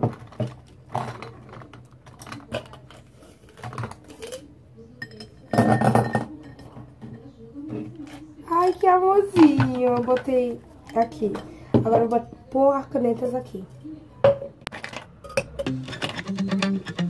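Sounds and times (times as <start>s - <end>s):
pens rattling against a mug: 0.0s - 12.2s, 14.3s - 17.0s.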